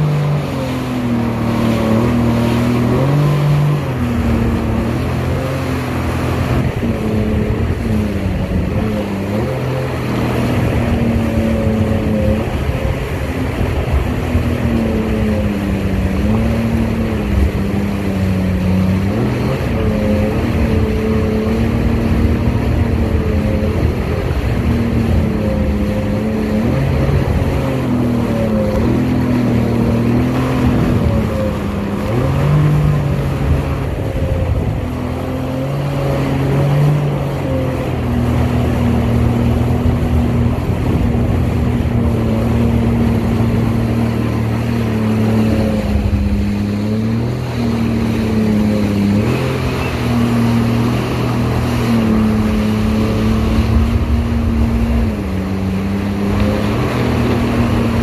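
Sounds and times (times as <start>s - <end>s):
jet ski engine running: 0.0s - 58.0s
water spray rushing: 0.0s - 58.0s.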